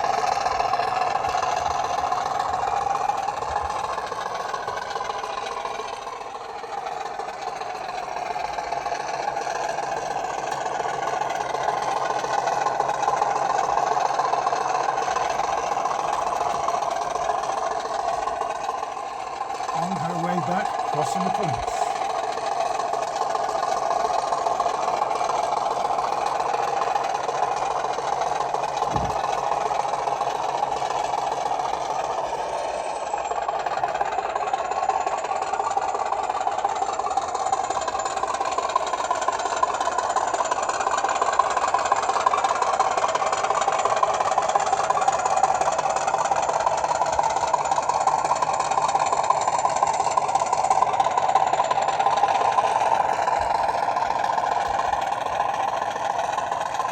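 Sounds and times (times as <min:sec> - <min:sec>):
diesel engine sound through small speaker: 0:00.0 - 0:56.9.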